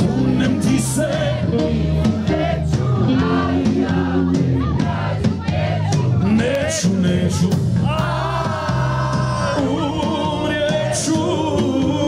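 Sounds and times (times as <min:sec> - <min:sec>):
crowd singing along: 0:00.0 - 0:12.0
live band playing folk-pop: 0:00.0 - 0:12.0
steady drum beat: 0:00.0 - 0:12.0.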